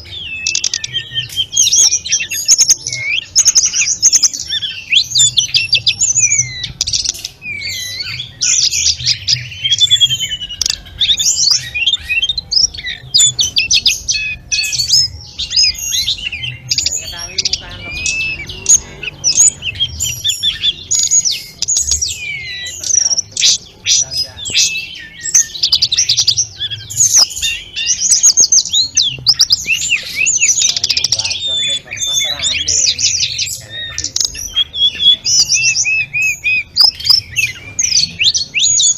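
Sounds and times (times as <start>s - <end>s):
bird singing whistled chirping song: 0.0s - 38.9s.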